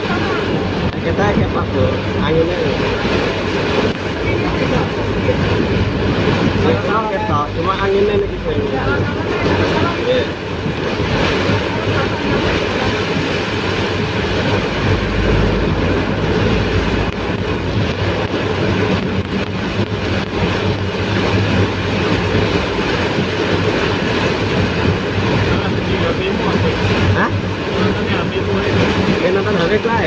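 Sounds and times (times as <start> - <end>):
gusty wind: 0.0 - 30.0
heavy rain pouring: 0.0 - 30.0.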